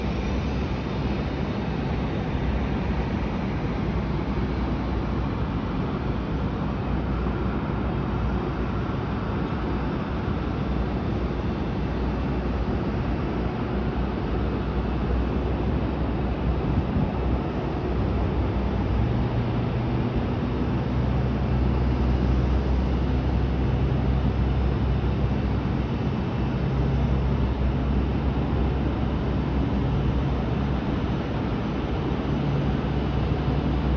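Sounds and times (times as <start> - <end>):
airplane roar and rumble: 0.0 - 33.9.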